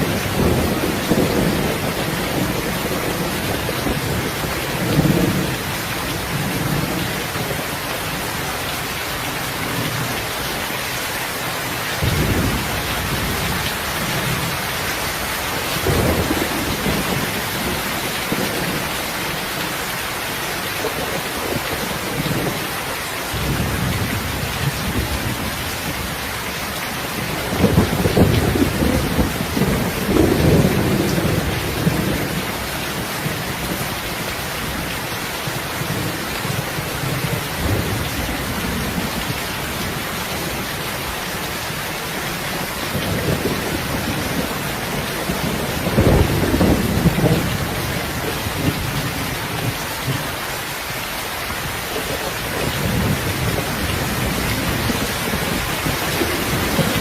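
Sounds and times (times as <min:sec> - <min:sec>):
thunder rumbling: 0:00.0 - 0:08.6, 0:12.0 - 0:19.9, 0:20.8 - 0:41.0, 0:41.7 - 0:50.4, 0:51.6 - 0:57.0
steady rain hiss: 0:00.0 - 0:57.0.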